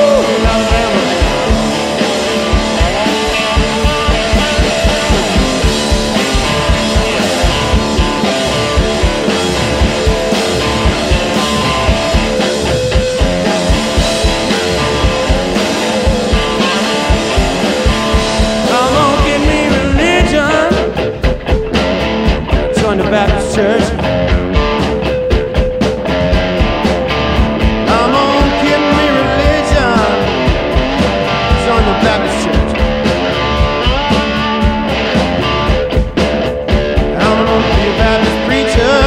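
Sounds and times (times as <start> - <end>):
rock music with singing: 0.0 - 39.0.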